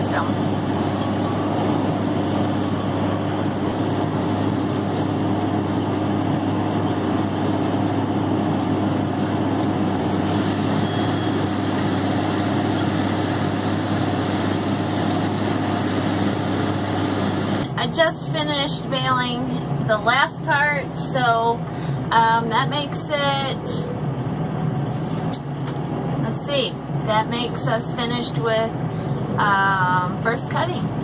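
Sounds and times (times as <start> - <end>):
tractor engine running under load: 0.0 - 31.0.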